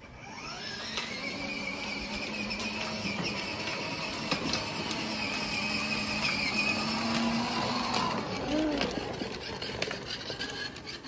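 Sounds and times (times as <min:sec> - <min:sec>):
electric motor whining: 0:00.0 - 0:11.0
plastic wheels rolling on concrete: 0:00.0 - 0:11.0.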